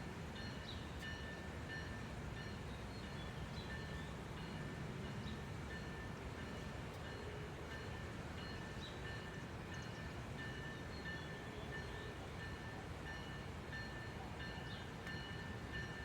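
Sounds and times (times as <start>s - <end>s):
faint train rumble: 0.0s - 16.0s
railroad crossing bell ringing: 0.4s - 16.0s.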